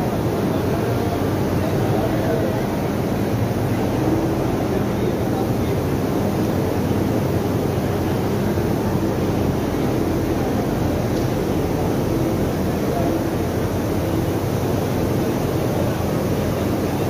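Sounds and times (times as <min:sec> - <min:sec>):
exhibition hall background rumble: 0:00.0 - 0:17.0.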